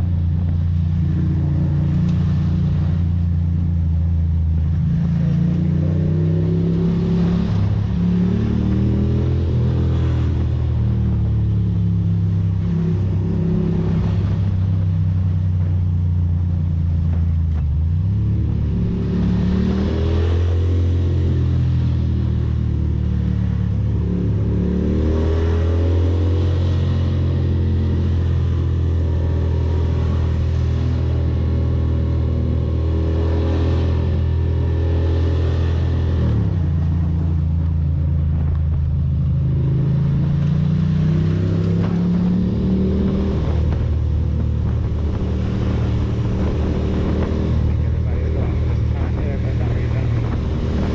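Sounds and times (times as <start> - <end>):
motorcycle engine accelerating: 0.0 - 50.9
rushing wind: 0.0 - 50.9.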